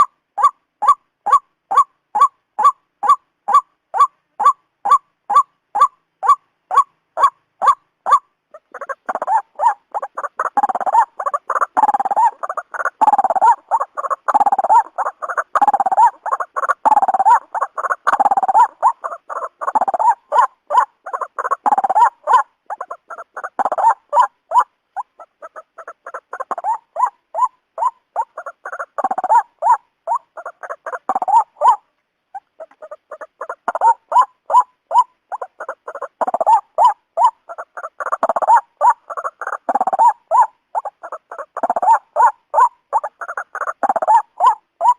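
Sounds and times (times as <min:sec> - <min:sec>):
waterhen calling: 0:00.0 - 0:44.9.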